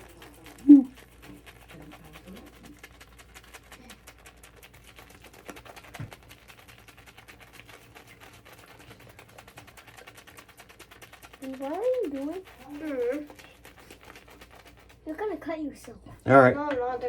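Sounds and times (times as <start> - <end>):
shaving brush scratching on soap: 0.0 - 17.0.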